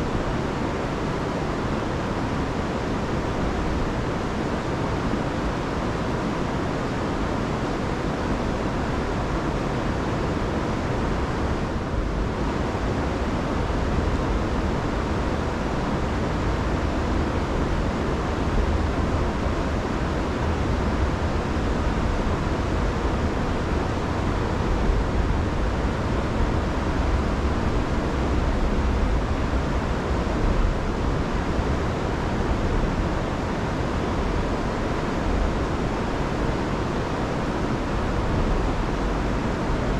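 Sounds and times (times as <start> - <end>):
river roaring: 0.0 - 39.9.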